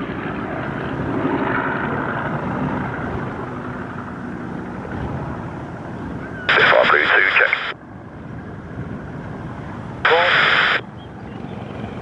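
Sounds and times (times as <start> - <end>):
distant propeller engines droning: 0.0 - 12.0.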